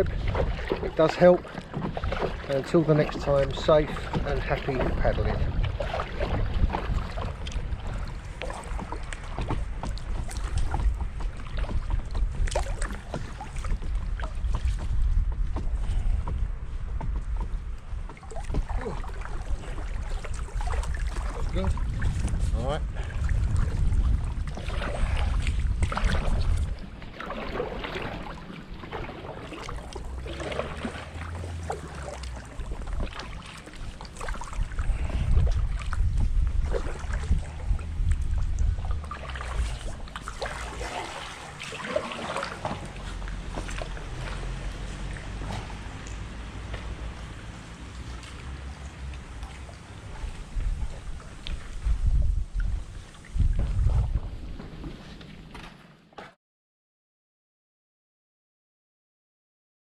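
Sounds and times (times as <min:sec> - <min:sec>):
wind buffeting microphone: 0:00.0 - 0:41.6, 0:42.5 - 0:55.0
paddle splashes: 0:00.0 - 0:56.4
water slapping against kayak hull: 0:00.0 - 0:56.4.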